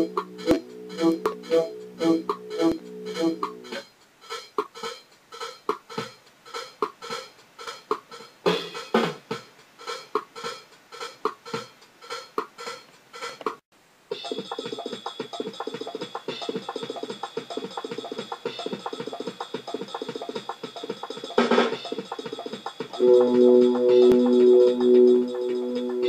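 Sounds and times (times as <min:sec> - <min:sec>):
music with percussive beat: 0:00.0 - 0:26.0.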